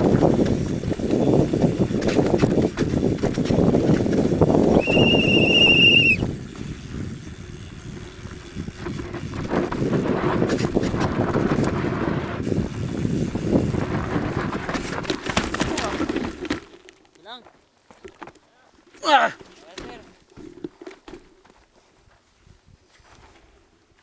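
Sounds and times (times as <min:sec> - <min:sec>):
mountain bike rattling over dirt: 0:00.0 - 0:22.2.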